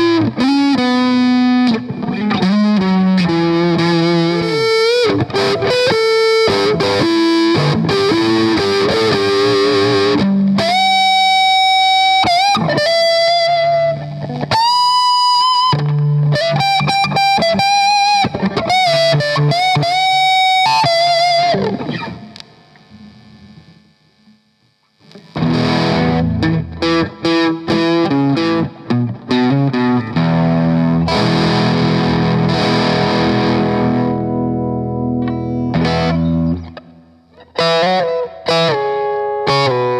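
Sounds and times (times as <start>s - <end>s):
overdriven electric guitar lead lines: 0.0s - 39.9s
overdriven guitar chord riffing: 0.0s - 39.9s.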